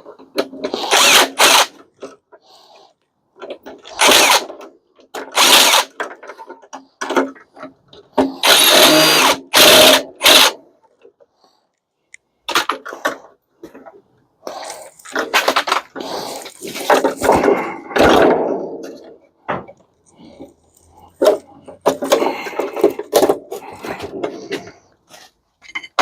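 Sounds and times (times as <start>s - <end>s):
metal parts clattering and scraping: 0.0s - 2.4s, 3.3s - 8.6s, 12.4s - 26.0s.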